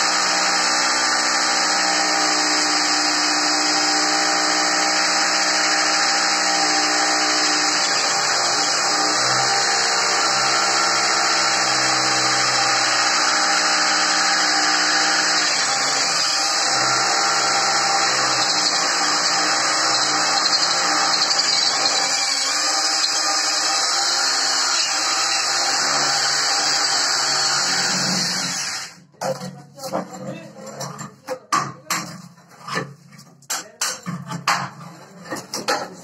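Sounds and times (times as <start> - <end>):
electric drill drilling into tile: 0.0 - 29.0.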